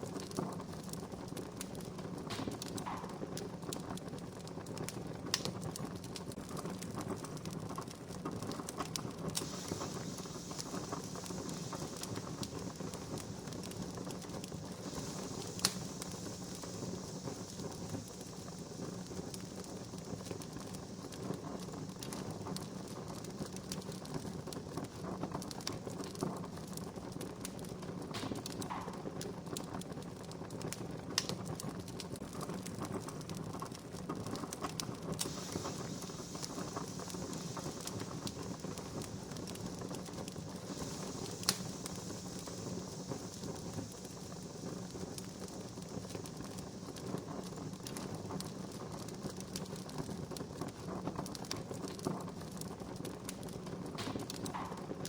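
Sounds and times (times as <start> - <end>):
soft hiss: 0.0 - 55.0
wood fire crackling: 0.0 - 55.0.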